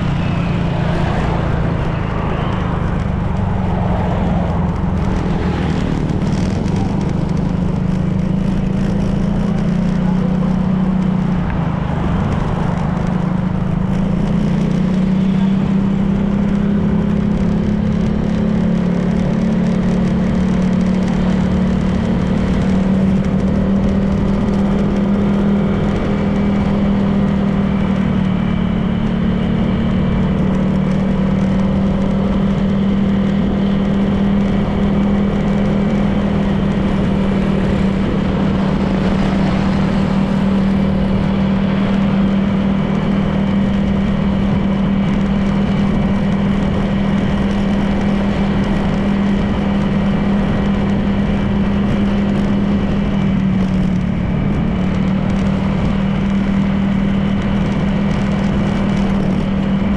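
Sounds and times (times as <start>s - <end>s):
road and wind noise: 0.0s - 59.9s
scooter engine running: 0.0s - 59.9s.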